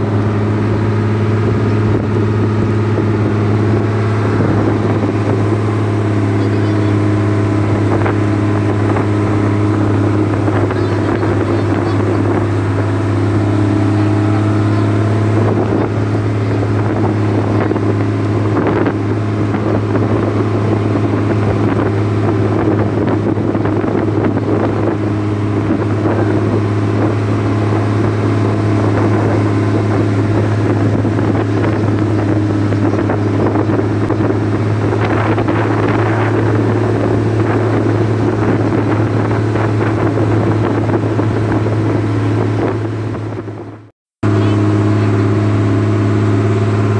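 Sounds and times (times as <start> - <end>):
boat engine droning: 0.0 - 46.9
rushing water: 0.0 - 46.9
wind: 0.0 - 46.9.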